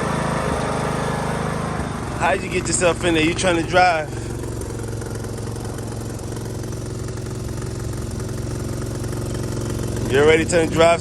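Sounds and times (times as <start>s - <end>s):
lawn mower engine idling: 0.0s - 11.0s.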